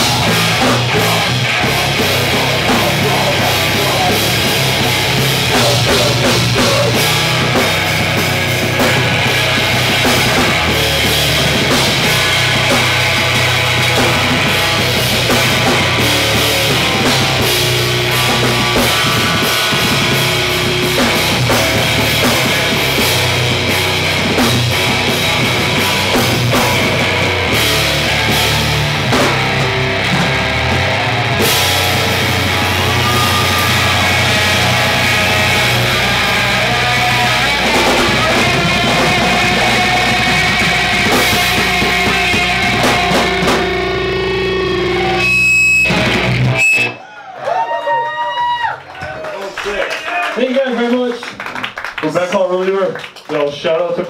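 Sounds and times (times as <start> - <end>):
distorted electric guitar: 0.0 - 47.0
drum kit: 0.0 - 47.0.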